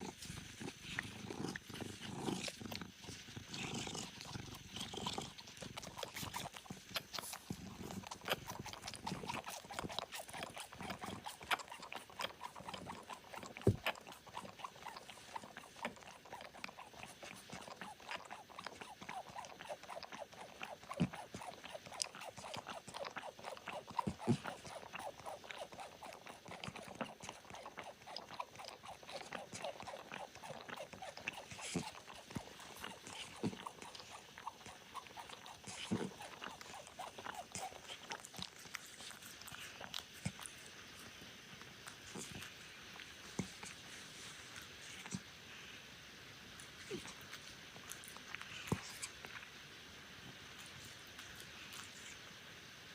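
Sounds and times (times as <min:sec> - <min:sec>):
kittens suckling: 0:00.0 - 0:45.9, 0:46.6 - 0:49.6, 0:50.3 - 0:52.4.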